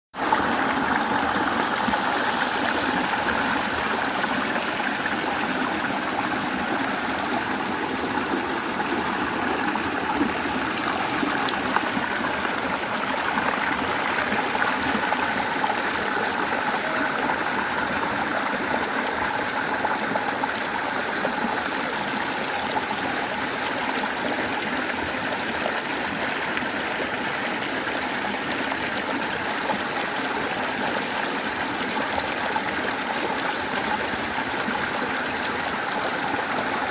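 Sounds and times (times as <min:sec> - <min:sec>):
stream running over rocks: 0:00.2 - 0:36.9.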